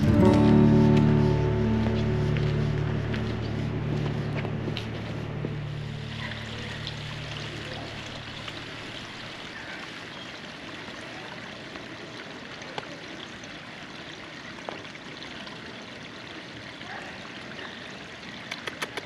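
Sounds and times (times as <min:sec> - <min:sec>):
rain falling: 0:00.0 - 0:17.8
water trickling: 0:00.0 - 0:19.0.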